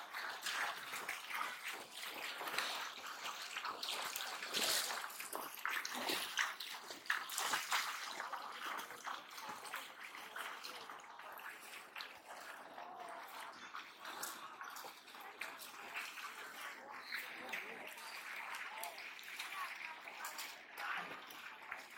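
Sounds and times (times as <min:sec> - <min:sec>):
shallow water splashing: 0:00.0 - 0:21.9.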